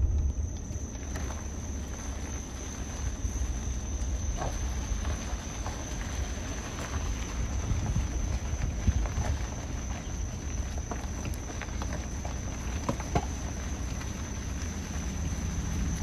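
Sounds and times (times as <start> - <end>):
high insect drone: 0.0 - 16.0
wind rumble on microphone: 0.0 - 16.0.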